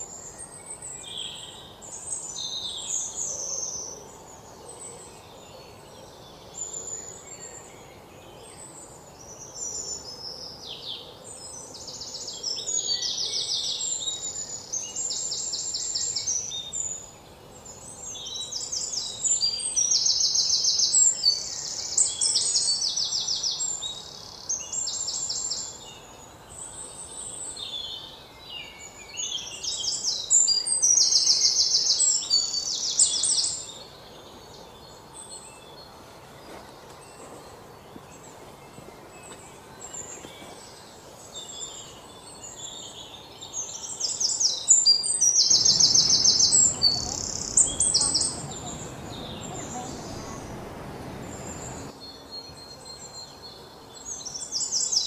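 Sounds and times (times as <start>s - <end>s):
faint steady hiss: 0.0s - 55.0s
songbirds trilling and chirping: 0.0s - 55.0s.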